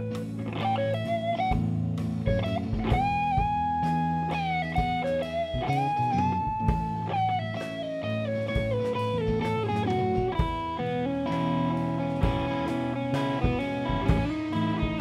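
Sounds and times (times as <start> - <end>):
bass: 0.0 - 15.0
electric guitar solo: 0.0 - 15.0
drum hits: 0.2 - 7.9, 8.5 - 15.0.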